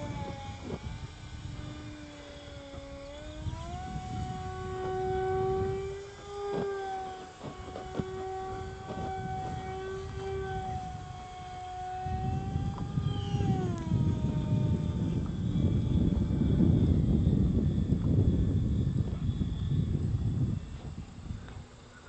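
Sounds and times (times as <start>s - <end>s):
model plane motor whining: 0.0s - 22.0s
wind rumble on microphone: 0.0s - 22.0s.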